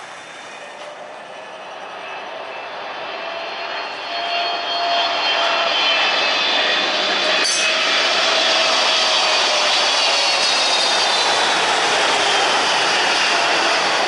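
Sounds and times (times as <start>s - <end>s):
jet airliner engines whining: 0.0s - 14.0s.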